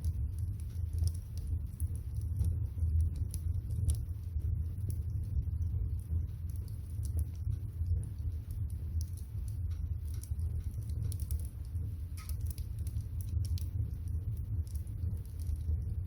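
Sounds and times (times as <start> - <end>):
water heating in a pot: 0.0 - 16.0
wood fire crackling: 0.0 - 16.0.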